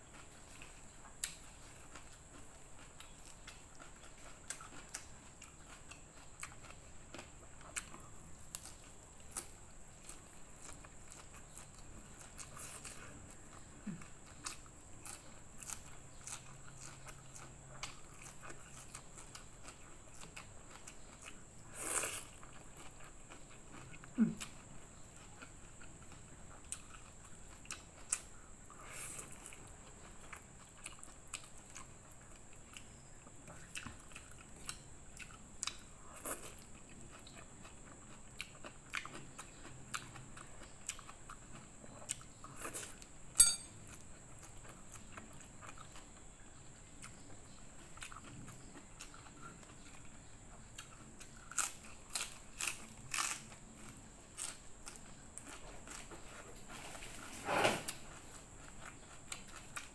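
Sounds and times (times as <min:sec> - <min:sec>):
chewing and crunching greens: 0:00.0 - 0:59.9.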